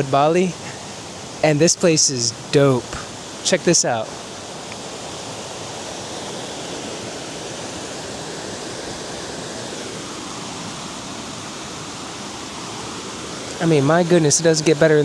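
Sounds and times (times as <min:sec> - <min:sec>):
waterfall crashing: 0:00.0 - 0:15.0.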